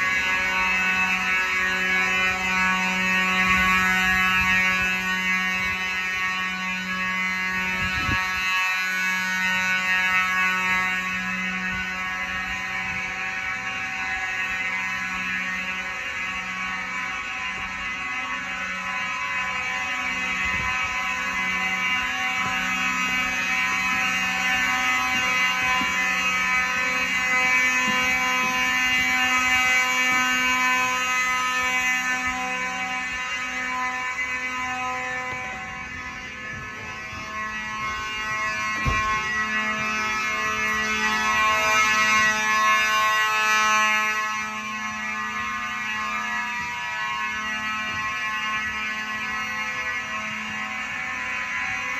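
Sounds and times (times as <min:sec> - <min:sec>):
fire alarm horns: 0:00.0 - 0:51.9.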